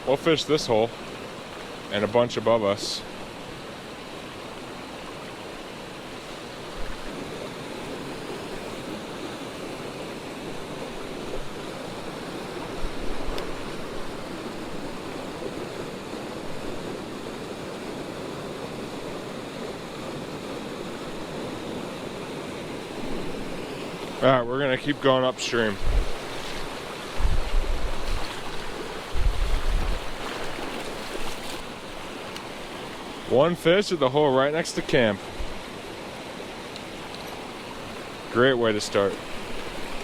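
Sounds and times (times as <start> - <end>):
creek rushing: 0.0 - 40.0.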